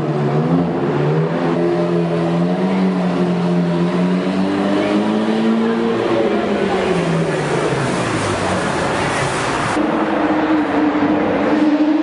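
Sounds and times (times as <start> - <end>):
car engine accelerating in tunnel: 0.0 - 12.0.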